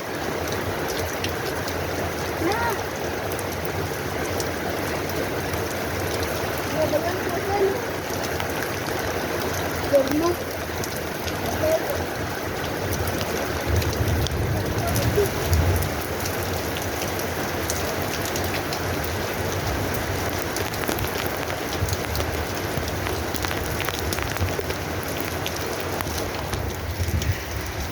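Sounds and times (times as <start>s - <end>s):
rain falling: 0.0s - 27.9s.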